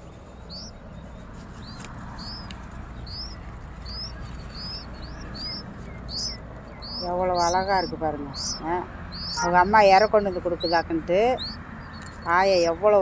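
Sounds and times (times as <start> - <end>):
low steady rumble: 0.0 - 13.0
nestlings cheeping: 0.0 - 13.0.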